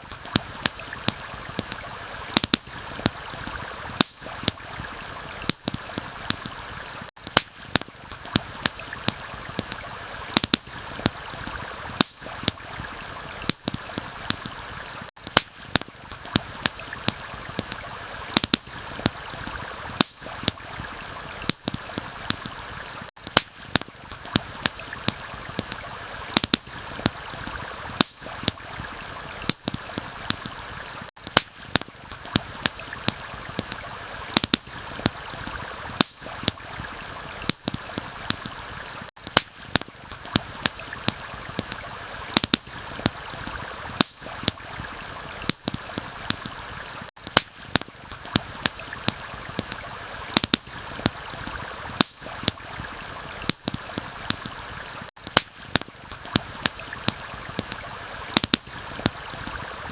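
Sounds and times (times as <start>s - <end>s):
campfire crackling and popping: 0.0s - 59.9s
stream flowing: 0.0s - 59.9s.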